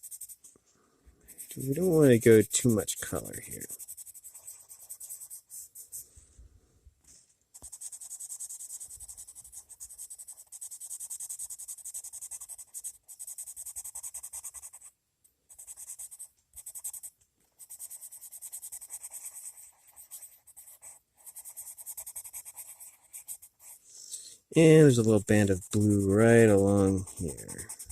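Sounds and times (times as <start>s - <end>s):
pencil scratching on paper: 0.0s - 0.5s, 1.2s - 6.0s, 7.5s - 14.9s, 15.5s - 27.9s.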